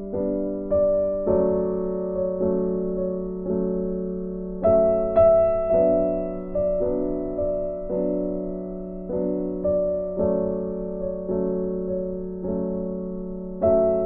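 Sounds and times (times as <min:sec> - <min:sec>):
slow keyboard melody: 0:00.0 - 0:14.0.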